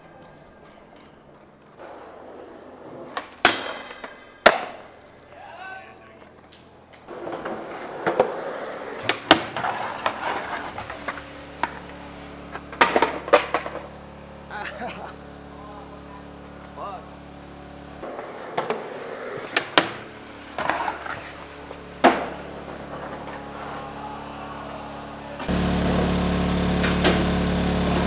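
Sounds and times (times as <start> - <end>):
skateboard clacks: 0.0 - 14.2, 18.0 - 24.0, 25.3 - 28.0
skateboard wheels rolling on pavement: 0.0 - 28.0.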